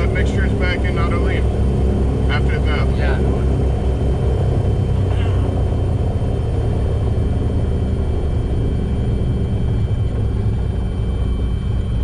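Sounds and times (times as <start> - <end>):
radial piston engines rumbling: 0.0 - 12.0.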